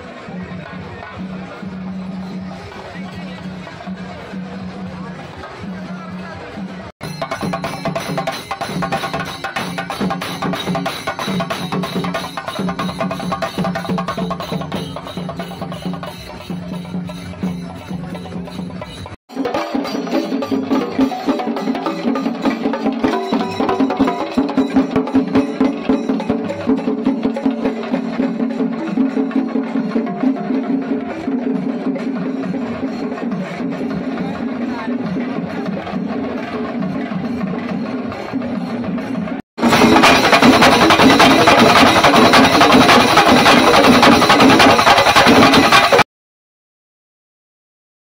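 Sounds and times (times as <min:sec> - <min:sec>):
drums beaten with sticks: 0:00.0 - 0:46.0
hand cymbals clashing: 0:07.0 - 0:46.0.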